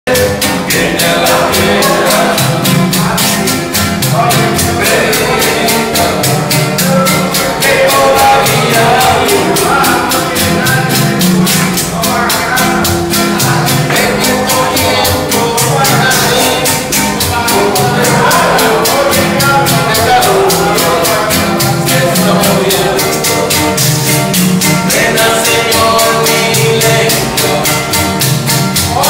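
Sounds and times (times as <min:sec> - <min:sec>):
acoustic guitars strumming: 0:00.1 - 0:29.0
guira scraping: 0:00.1 - 0:29.0.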